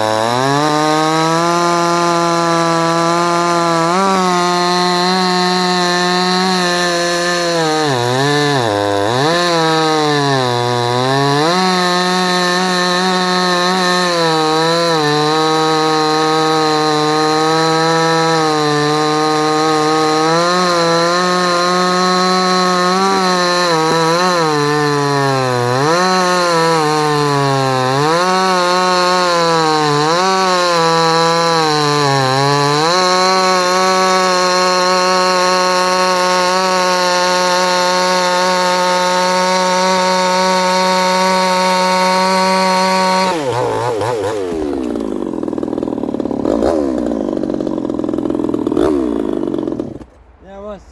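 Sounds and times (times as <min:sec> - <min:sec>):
chainsaw bogging under load: 0:00.0 - 0:50.2.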